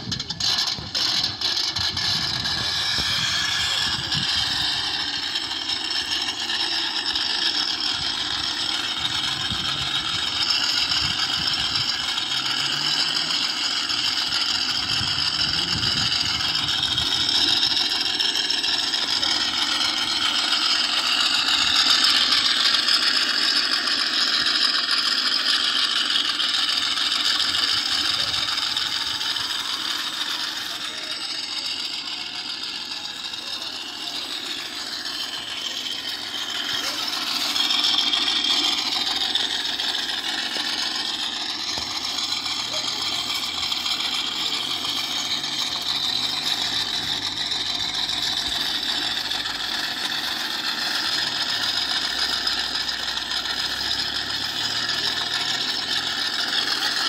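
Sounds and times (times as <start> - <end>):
chassis rattle: 0.0 - 57.0
electric motor whining: 0.0 - 57.0.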